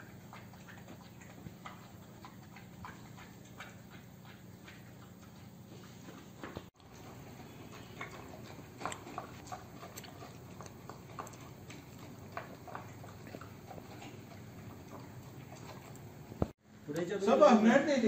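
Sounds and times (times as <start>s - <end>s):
dog eating from a bowl: 0.0s - 5.8s, 6.8s - 16.6s.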